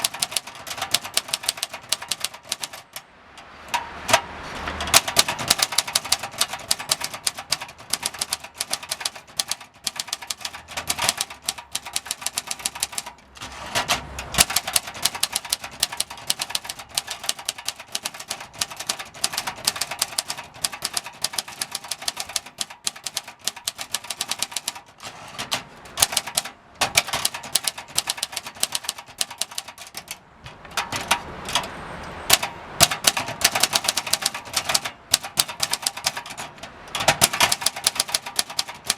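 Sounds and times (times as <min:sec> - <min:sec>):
typewriter key clicks: 0:00.0 - 0:38.9.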